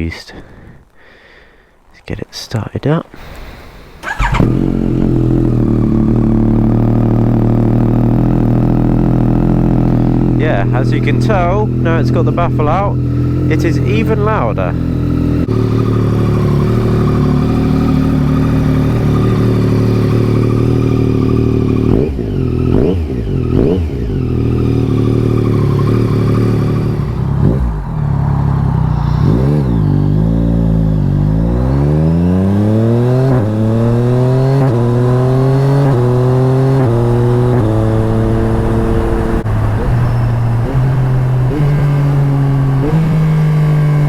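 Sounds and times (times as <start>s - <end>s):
motorcycle engine revving: 3.2s - 44.0s.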